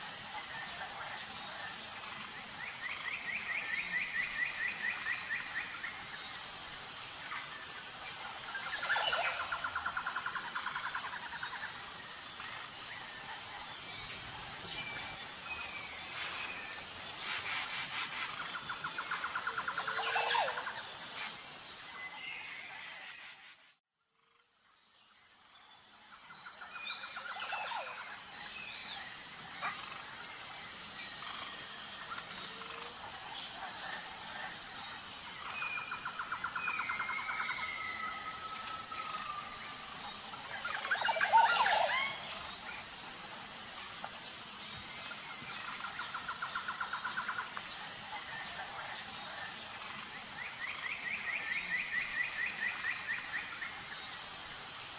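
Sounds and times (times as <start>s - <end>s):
steady high hiss: 0.0s - 23.8s, 25.0s - 54.9s.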